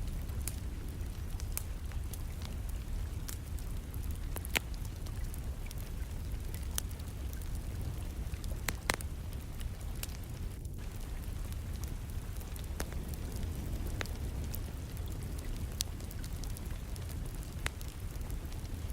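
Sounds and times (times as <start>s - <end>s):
fire popping sharply: 0.0s - 18.9s
steady low rumble: 0.0s - 18.9s
wood fire crackling: 0.0s - 18.9s.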